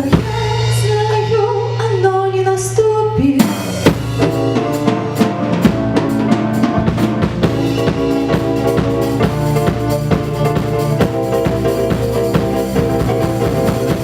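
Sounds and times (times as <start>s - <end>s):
drum kit beat: 0.0s - 2.5s, 3.1s - 14.0s
sustained bass and melody: 0.0s - 14.0s.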